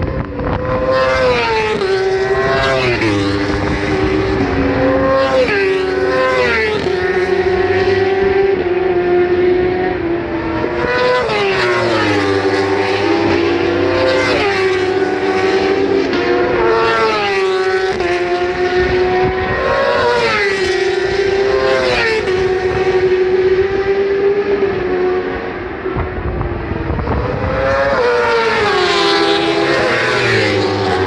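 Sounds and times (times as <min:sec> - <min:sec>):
motorcycles passing at speed: 0:00.0 - 0:31.0.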